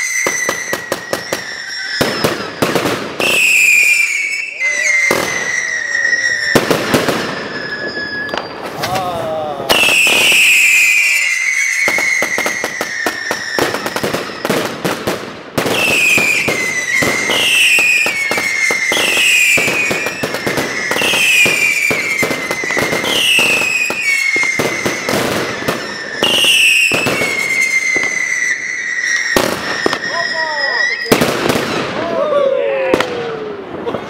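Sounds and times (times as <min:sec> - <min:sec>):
firework whistle dropping in pitch: 0:00.0 - 0:14.6, 0:15.7 - 0:33.8
fireworks bangs: 0:00.0 - 0:34.0.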